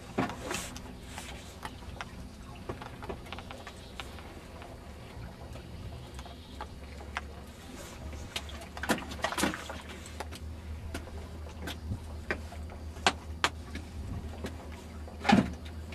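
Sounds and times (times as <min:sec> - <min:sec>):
low steady rumble: 0:00.0 - 0:15.9.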